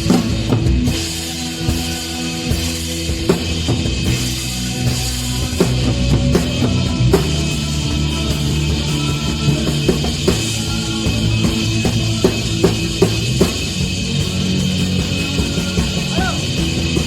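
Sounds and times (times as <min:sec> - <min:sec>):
bass and guitar low notes: 0:00.0 - 0:17.0
drum kit beat: 0:00.0 - 0:17.0.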